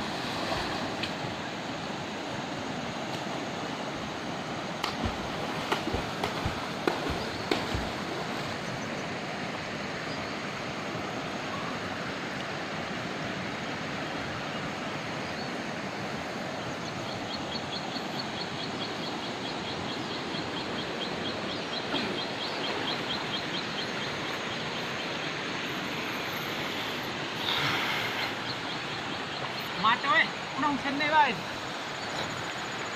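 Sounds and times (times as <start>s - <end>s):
stream rushing: 0.0s - 32.9s.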